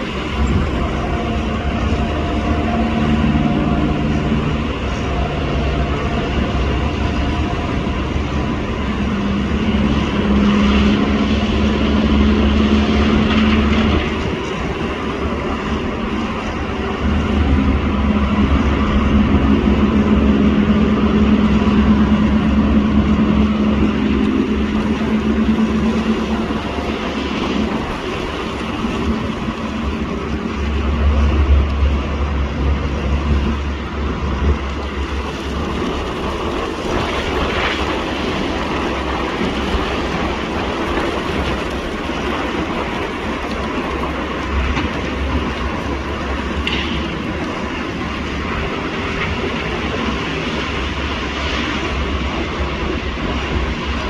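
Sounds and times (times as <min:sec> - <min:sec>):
engine drone: 0:00.0 - 0:54.0
rail vehicle rumble: 0:00.0 - 0:54.0.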